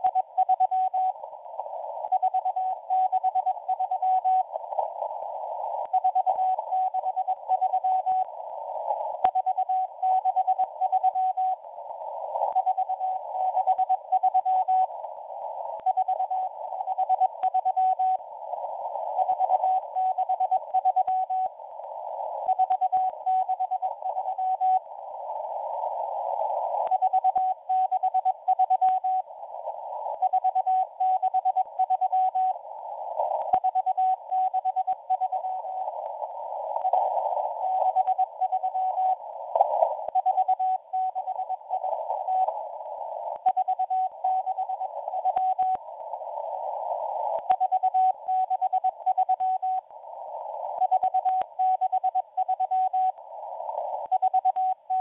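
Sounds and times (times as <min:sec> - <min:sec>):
radio hiss: 0:00.0 - 0:55.0
static crackles: 0:00.0 - 0:55.0.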